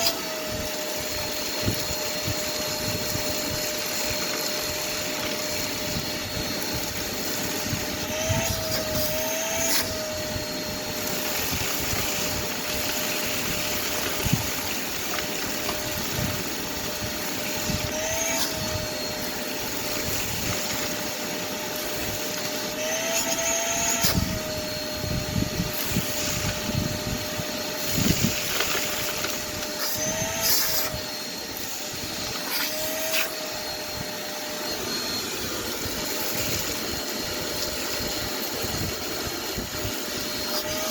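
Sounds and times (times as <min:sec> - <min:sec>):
glass rattling up a hose: 0:00.0 - 0:34.5
shop vac motor whine: 0:00.0 - 0:40.9.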